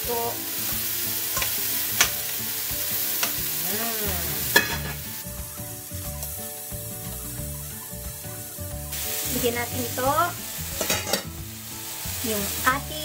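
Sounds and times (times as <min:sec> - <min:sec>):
chicken frying in a pan: 0:00.0 - 0:13.0
food sizzling in hot oil: 0:00.0 - 0:13.0.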